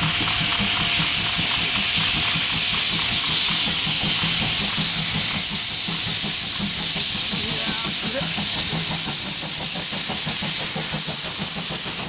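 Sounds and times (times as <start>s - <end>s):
low rhythmic train pulses: 0.0s - 12.0s
steam locomotive hissing steam: 0.0s - 12.0s.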